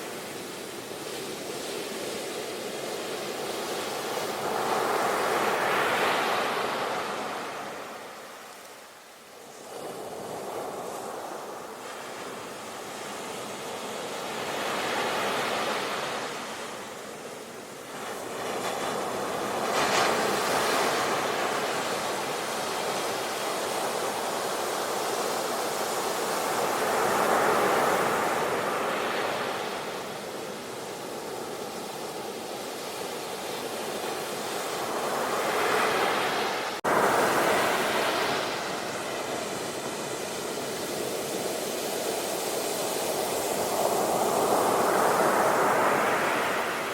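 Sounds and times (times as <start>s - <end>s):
ocean waves washing ashore: 0.0s - 46.9s.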